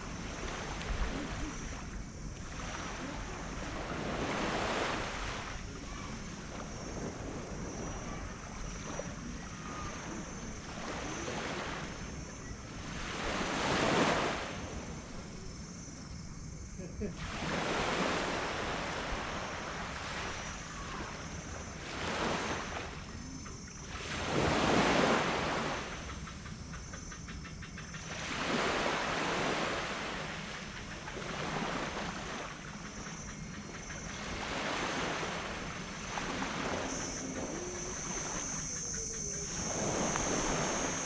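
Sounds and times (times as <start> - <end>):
small waves washing on sand: 0.0 - 15.9, 16.9 - 26.5, 27.8 - 41.0.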